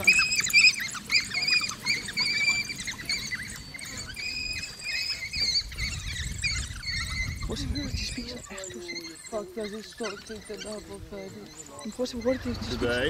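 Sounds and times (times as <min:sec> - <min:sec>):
wild dogs twittering: 0:00.0 - 0:13.0.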